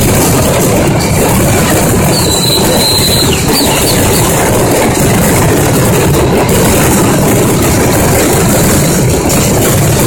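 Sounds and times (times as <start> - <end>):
fireworks exploding: 0.0 - 10.0.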